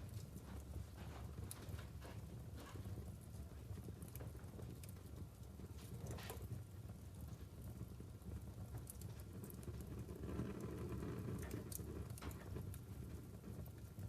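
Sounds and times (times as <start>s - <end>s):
fire flame rumble: 0.0s - 14.0s
logs crackling and popping: 0.0s - 14.0s.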